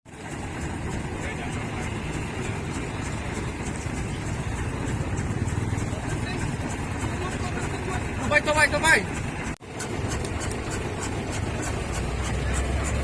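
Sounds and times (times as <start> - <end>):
road traffic: 0.1 - 13.0.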